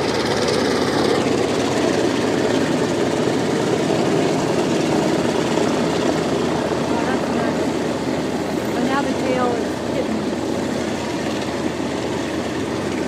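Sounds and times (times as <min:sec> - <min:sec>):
propeller engines running: 0:00.0 - 0:13.0.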